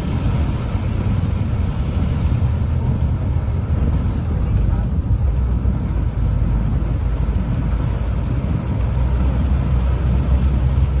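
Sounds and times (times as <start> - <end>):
car engine and tyres rumbling: 0.0 - 11.0
wet road spray: 0.0 - 11.0.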